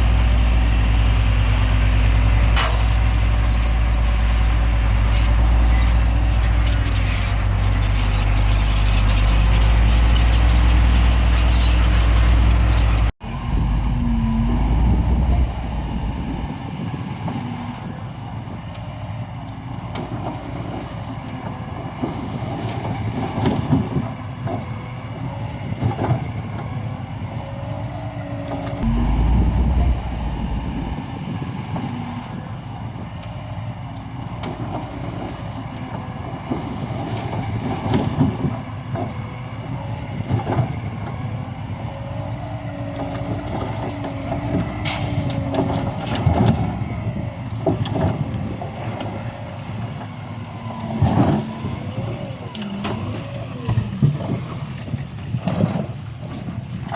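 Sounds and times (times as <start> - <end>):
heavy machinery engine rumble: 0.0 - 56.9.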